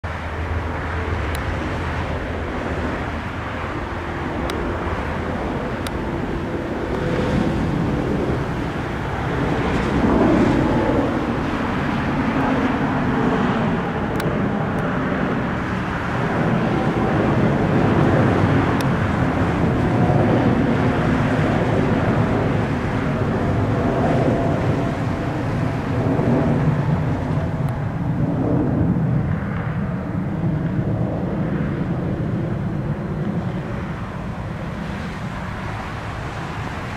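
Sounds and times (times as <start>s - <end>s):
jet engine rumble: 0.0s - 36.9s.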